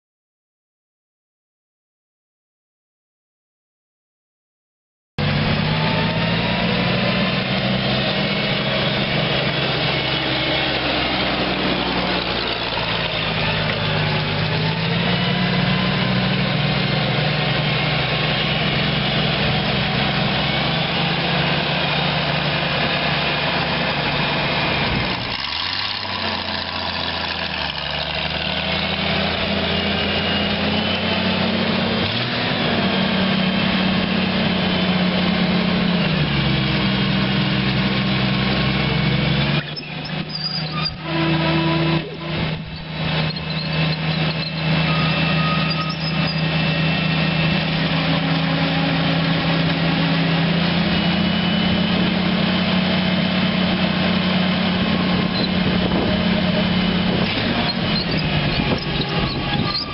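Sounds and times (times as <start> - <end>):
backhoe diesel engine revving: 5.2 - 59.9.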